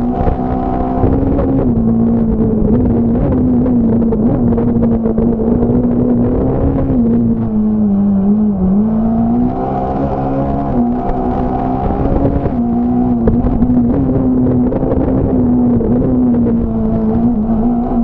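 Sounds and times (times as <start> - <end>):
rally car engine at high revs: 0.0 - 18.0.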